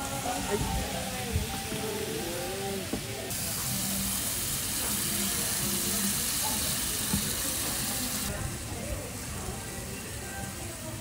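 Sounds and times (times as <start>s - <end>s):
stir-fry sizzling on hot platter: 0.0s - 11.0s.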